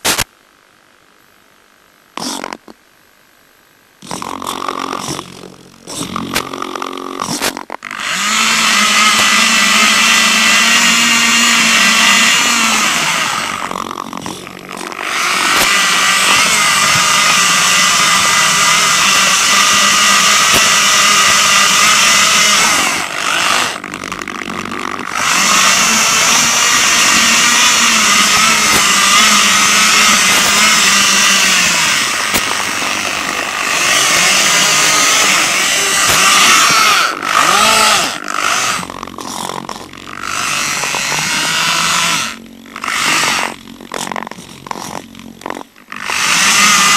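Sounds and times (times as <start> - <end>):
electric motors whining: 4.0 - 46.9.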